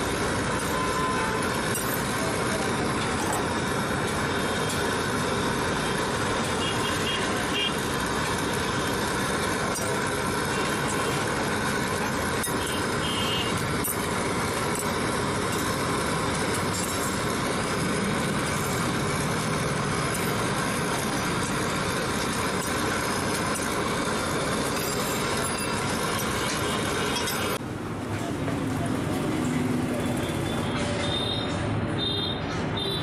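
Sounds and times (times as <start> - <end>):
street food stall background noise: 0.0 - 33.0.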